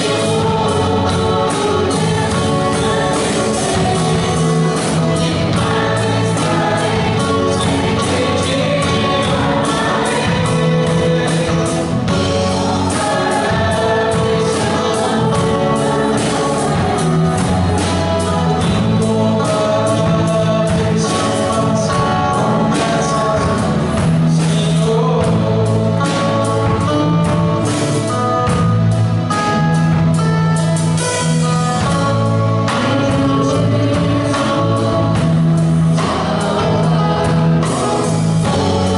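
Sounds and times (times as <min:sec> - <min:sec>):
man and woman singing: 0:00.0 - 0:28.2, 0:31.8 - 0:38.9
band playing: 0:00.0 - 0:38.9.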